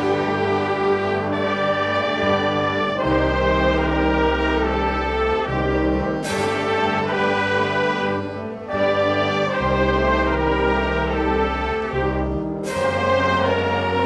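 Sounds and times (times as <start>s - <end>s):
wind band playing chords: 0.0s - 14.0s.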